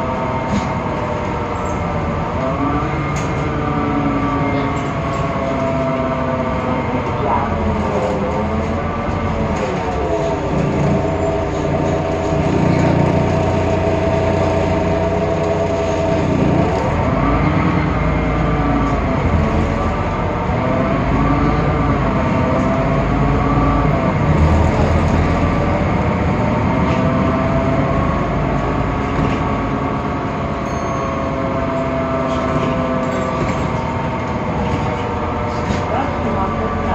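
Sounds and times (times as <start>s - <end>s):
bus engine whine and rumble: 0.0s - 36.9s.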